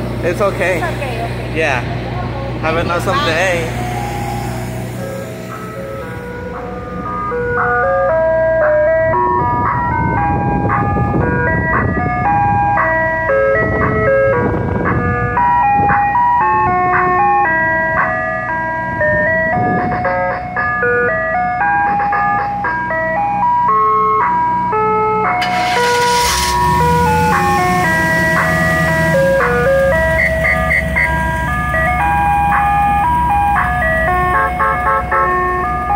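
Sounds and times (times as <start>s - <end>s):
truck engine rumble: 0.0s - 35.9s
ice cream truck chime jingle: 2.4s - 35.9s.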